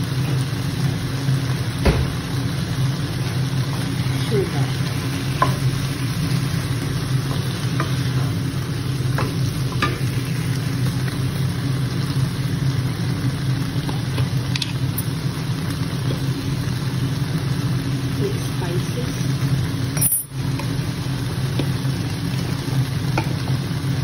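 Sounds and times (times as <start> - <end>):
steady low hum: 0.0 - 24.0
vegetables sizzling in frying pan: 0.0 - 24.0.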